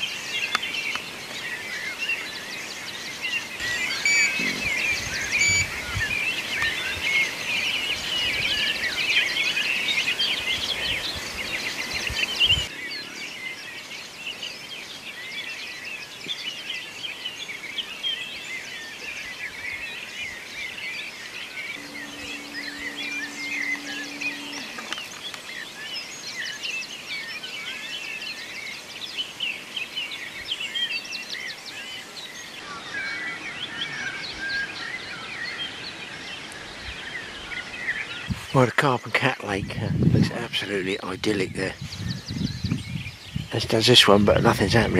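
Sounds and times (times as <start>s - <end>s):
songbirds chirping and singing: 0.0s - 44.9s.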